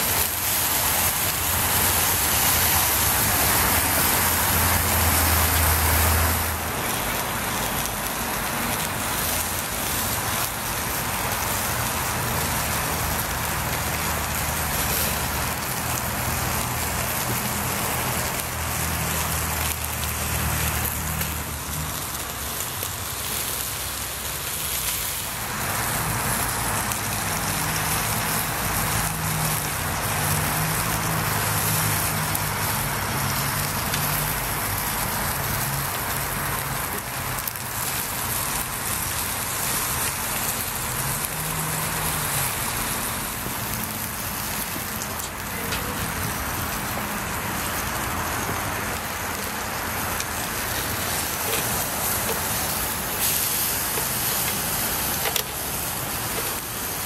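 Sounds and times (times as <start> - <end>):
meat sizzling on a grill: 0.0 - 57.0.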